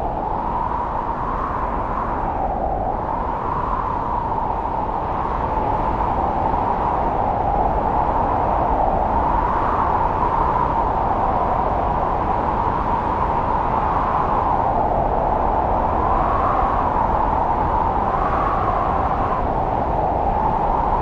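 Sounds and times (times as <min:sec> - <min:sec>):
strong wind howling: 0:00.0 - 0:21.0.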